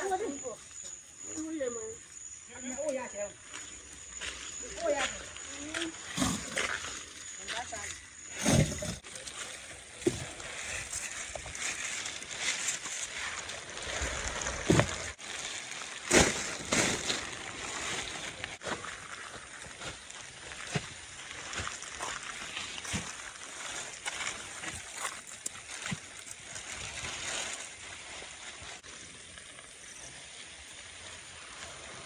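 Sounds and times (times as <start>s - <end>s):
mud and water sloshing: 3.4s - 32.0s.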